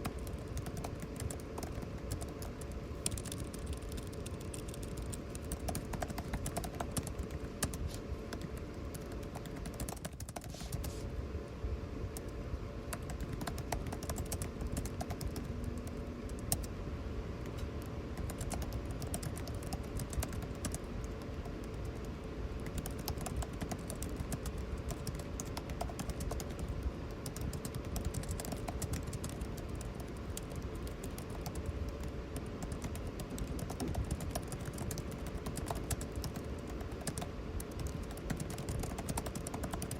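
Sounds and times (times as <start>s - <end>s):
computer keyboard typing: 0.0s - 10.9s, 12.1s - 16.7s, 17.4s - 39.9s
air conditioning hum: 0.0s - 39.9s.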